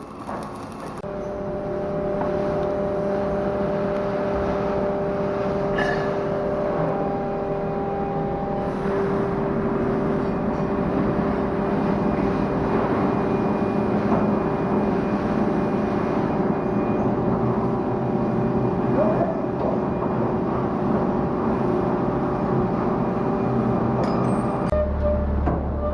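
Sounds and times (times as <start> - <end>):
anchor windlass machinery hum: 0.0 - 25.9.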